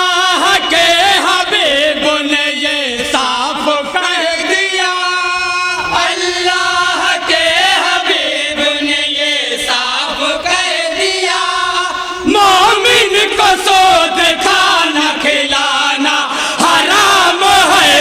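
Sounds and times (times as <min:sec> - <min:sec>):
men singing in unison: 0:00.0 - 0:18.0.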